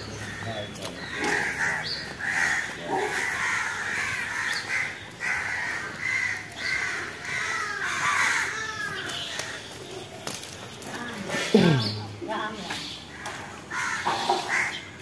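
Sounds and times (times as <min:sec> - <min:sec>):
crows cawing: 0:00.0 - 0:10.4, 0:13.1 - 0:15.0.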